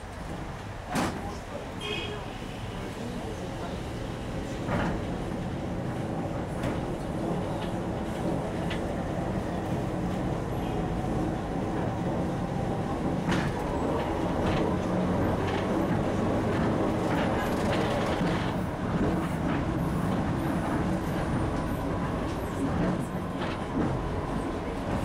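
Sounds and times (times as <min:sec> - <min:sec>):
tram rumbling: 0:00.0 - 0:25.0.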